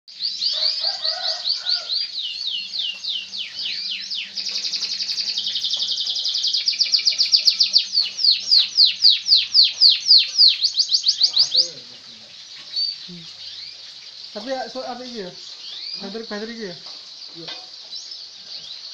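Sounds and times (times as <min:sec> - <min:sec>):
canary singing: 0:00.1 - 0:18.9.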